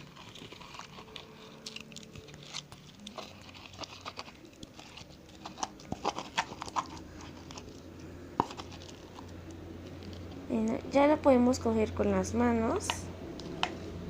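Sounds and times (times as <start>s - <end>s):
spoon stirring sticky slime: 0.0s - 14.0s.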